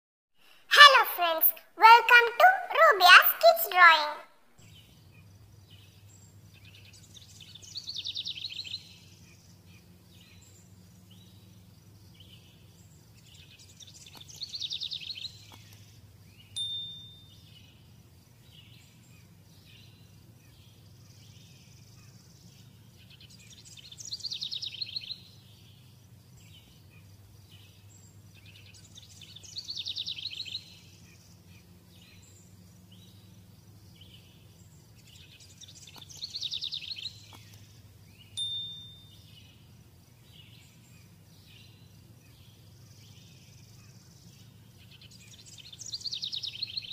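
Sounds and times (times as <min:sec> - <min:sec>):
faint steady hum: 0:00.4 - 0:46.9.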